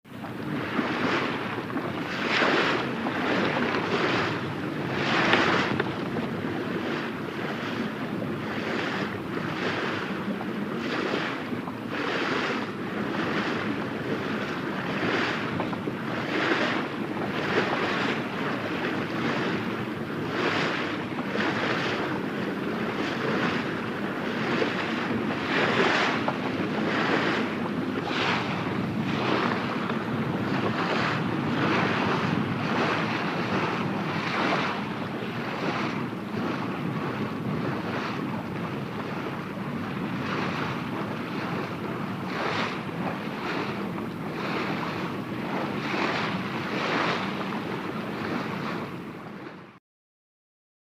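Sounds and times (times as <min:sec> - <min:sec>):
water splashing along hull: 0:00.0 - 0:49.8
wind noise: 0:00.1 - 0:49.8.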